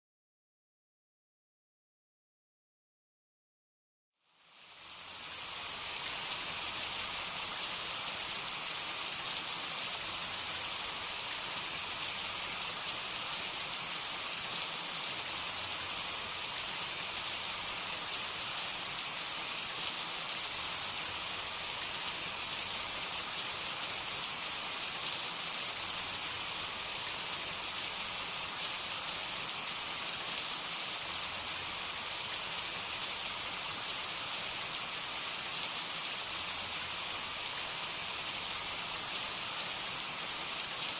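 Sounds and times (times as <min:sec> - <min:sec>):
hot oil sizzling with crackles: 0:04.2 - 0:40.9.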